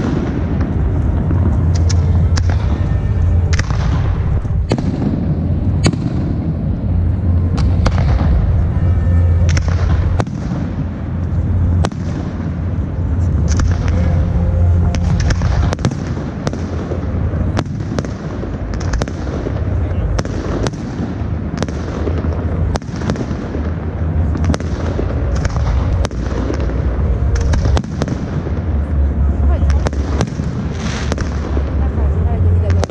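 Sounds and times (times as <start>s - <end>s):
fireworks bangs: 0.0s - 32.9s
low rumble: 0.0s - 32.9s.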